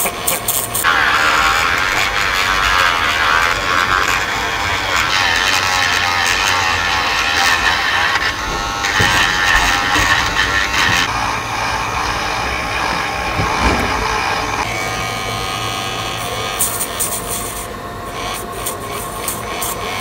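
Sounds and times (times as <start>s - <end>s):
electric nail trimmer motor whine: 0.0s - 20.0s
grinding bit filing fingernail: 0.0s - 20.0s.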